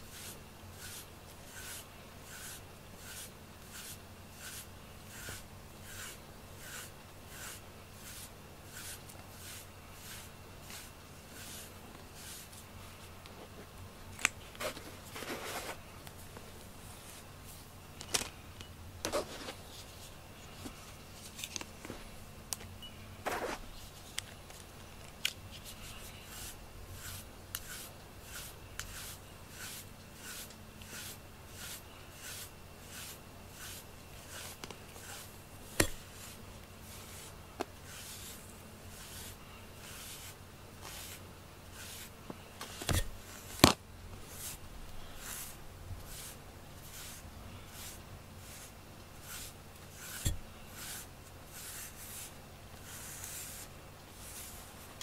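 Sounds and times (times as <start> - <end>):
brush scratching through cat fur: 0.0 - 13.7, 14.5 - 15.8, 25.5 - 55.0.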